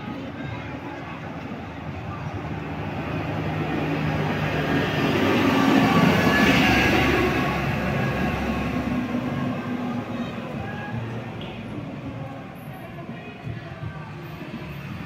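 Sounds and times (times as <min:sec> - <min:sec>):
tyres on road: 0:00.0 - 0:15.0
coach diesel engine passing: 0:01.3 - 0:15.0.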